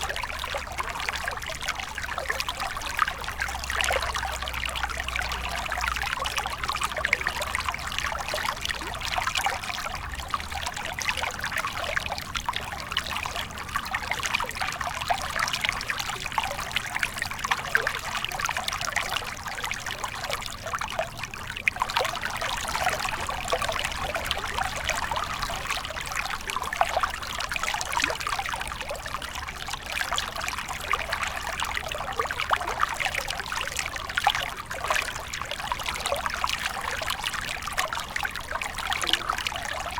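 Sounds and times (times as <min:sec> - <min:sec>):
river water babbling: 0:00.0 - 0:39.9
small water splashes: 0:00.0 - 0:39.9.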